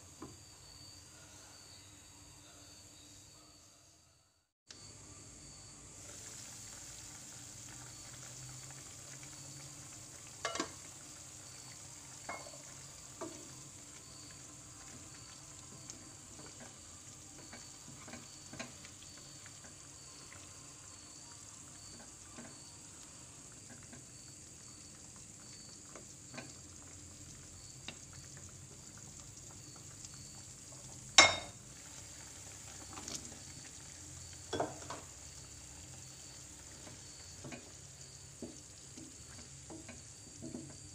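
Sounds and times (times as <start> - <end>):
curry sizzling in a pan: 4.8 - 40.9.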